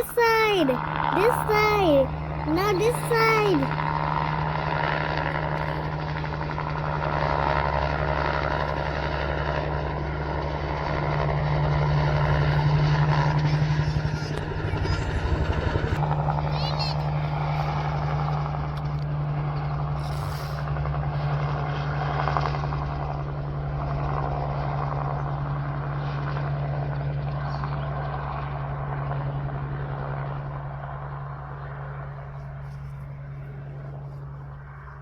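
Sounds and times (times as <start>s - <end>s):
helicopter droning: 0.0s - 35.0s.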